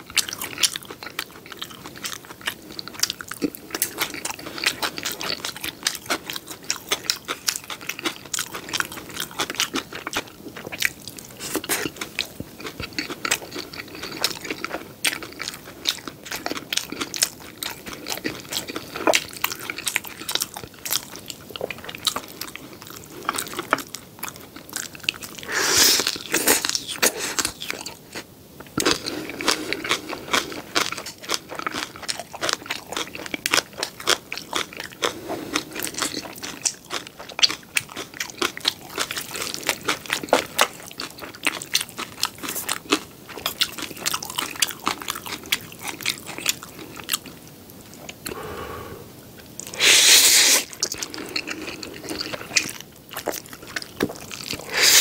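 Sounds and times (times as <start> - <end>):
chewing and crunching fried pork: 0.0 - 48.4, 49.4 - 55.0.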